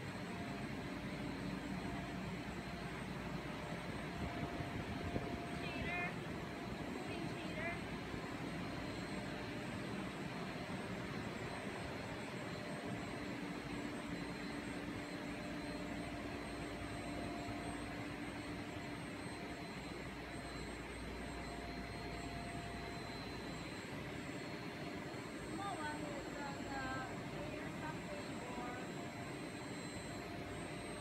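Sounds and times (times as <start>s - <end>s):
faint steady whine: 0.0s - 31.0s
machinery hum: 0.0s - 31.0s.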